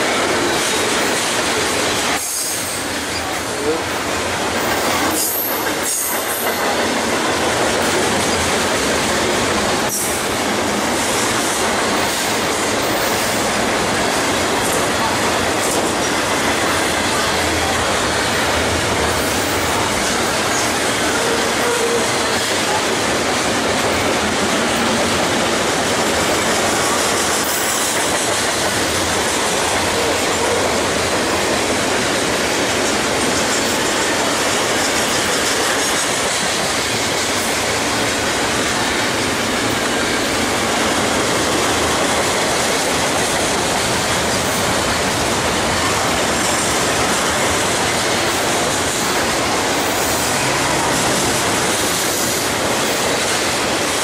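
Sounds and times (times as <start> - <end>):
freight train rolling past: 0.0 - 54.0
steel wheels clattering on rails: 0.0 - 54.0.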